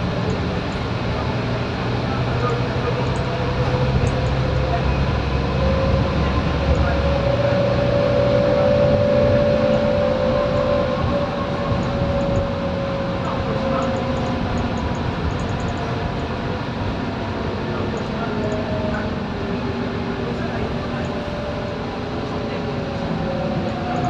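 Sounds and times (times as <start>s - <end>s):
diesel bus engine whining: 0.0s - 24.0s
low engine tone: 0.0s - 24.0s.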